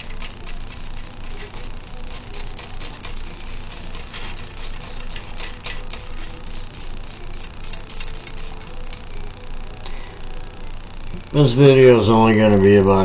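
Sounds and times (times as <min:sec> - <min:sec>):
small motor humming: 0:00.0 - 0:11.3.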